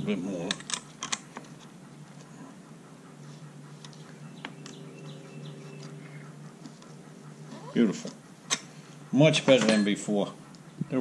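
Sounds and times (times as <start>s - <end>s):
faint metal ticks and squeaks: 0.4s - 11.0s.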